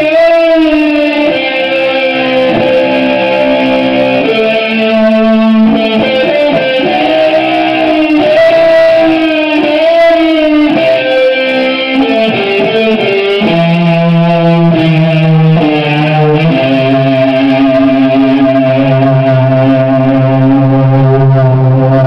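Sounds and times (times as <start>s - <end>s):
electric guitar through amplifier: 0.0s - 22.0s.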